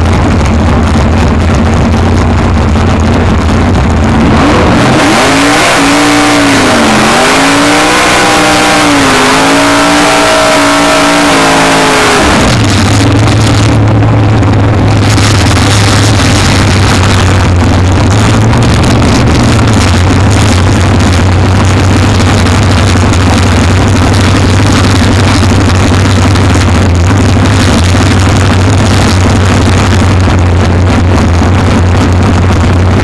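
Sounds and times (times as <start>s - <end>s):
vee-eight engine idling and revving: 0.0s - 33.0s.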